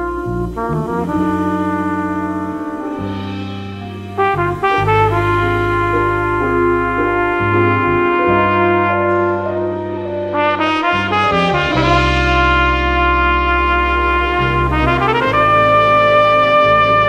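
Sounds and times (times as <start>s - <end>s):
bass and accompaniment: 0.0s - 17.0s
flugelhorn playing: 0.0s - 17.0s.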